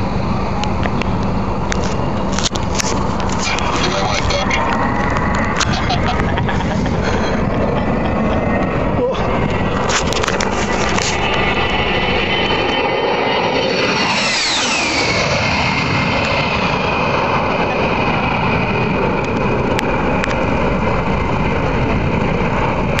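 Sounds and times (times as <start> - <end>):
jet engine whine: 0.0 - 23.0
rushing jet noise: 0.0 - 23.0.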